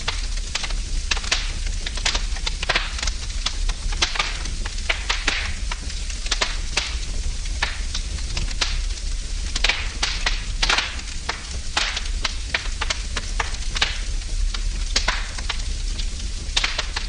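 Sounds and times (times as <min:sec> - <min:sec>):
hiss of flames: 0:00.0 - 0:17.0
wood fire crackling and popping: 0:00.0 - 0:17.0.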